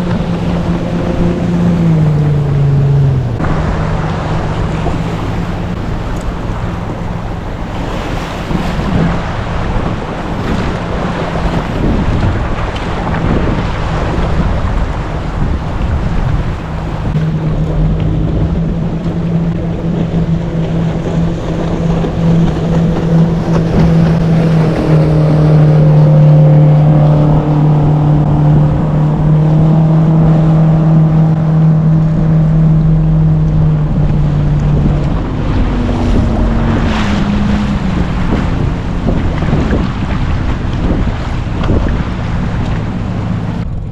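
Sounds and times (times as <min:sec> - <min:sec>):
boat motor running: 0:00.0 - 0:43.9.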